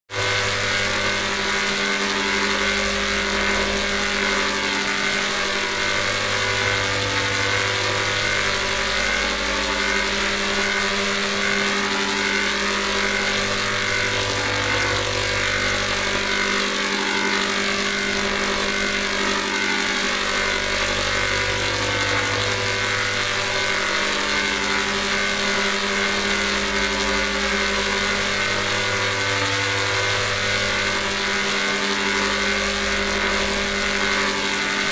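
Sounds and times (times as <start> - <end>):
low hum: 0.1 - 34.9.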